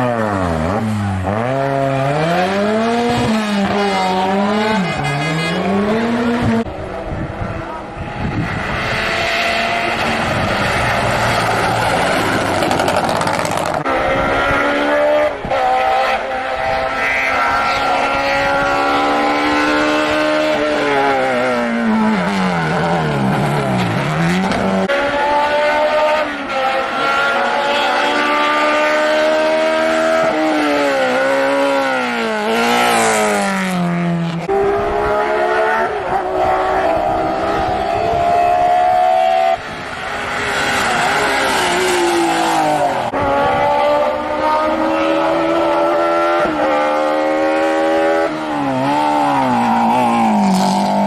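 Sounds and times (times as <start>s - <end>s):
race car engines revving: 0.0s - 51.0s.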